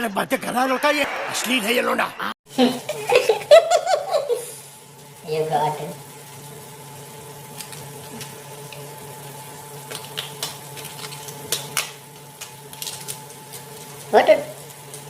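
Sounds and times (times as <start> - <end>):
food frying in a pan: 2.5 - 15.0.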